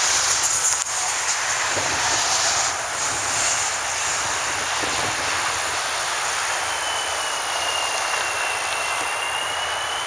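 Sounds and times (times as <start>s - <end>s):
high whine: 0.0s - 10.0s
jet engines on approach: 0.0s - 10.0s.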